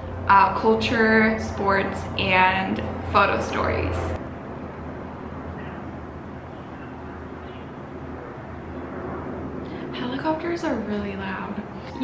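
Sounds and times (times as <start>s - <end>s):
helicopter flying: 0.0s - 12.0s.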